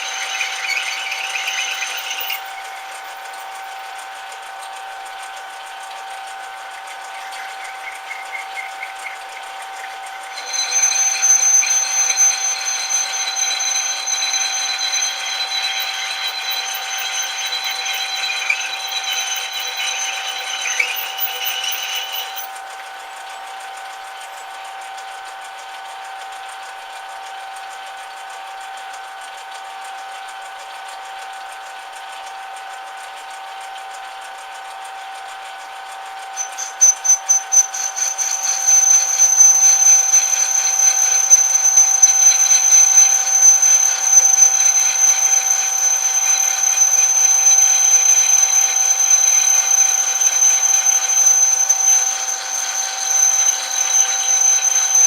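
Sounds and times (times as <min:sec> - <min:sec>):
high-pitched metal ringing: 0:00.0 - 0:26.2, 0:34.2 - 0:55.0
metal lathe whine: 0:00.0 - 0:55.0.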